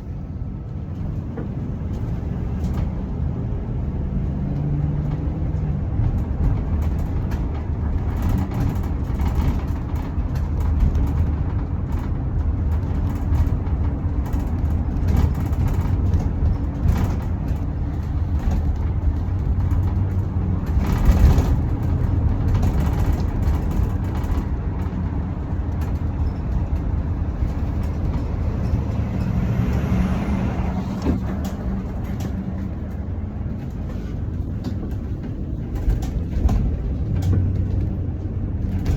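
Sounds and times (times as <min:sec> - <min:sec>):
vehicle engines rumbling: 0:00.0 - 0:38.9
vehicles passing: 0:00.0 - 0:38.9.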